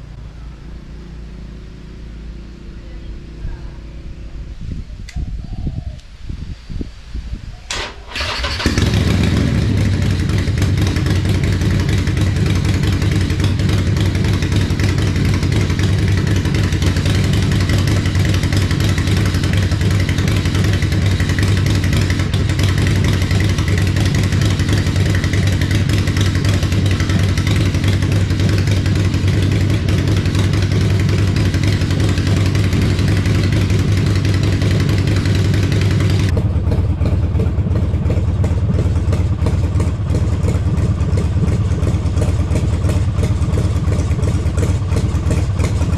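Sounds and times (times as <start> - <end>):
motorcycle engine cranking and idling: 7.6 - 45.9.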